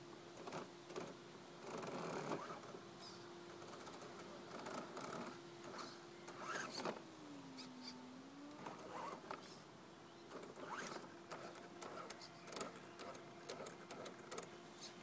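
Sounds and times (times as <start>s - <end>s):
small electric motor whining: 0.4s - 15.0s.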